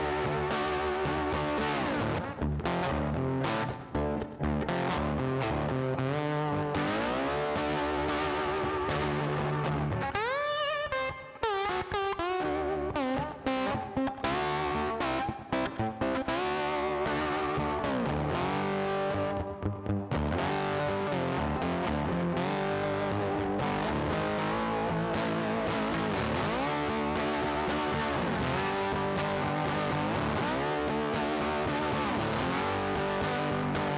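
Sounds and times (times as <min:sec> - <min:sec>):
distorted electric guitar music: 0:00.0 - 0:33.9.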